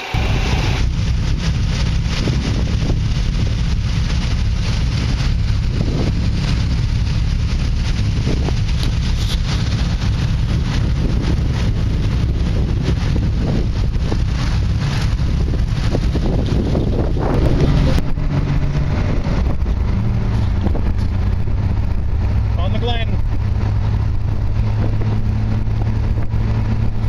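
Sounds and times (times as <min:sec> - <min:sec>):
car running noise: 0:00.0 - 0:27.0
wind buffeting microphone: 0:00.0 - 0:27.0.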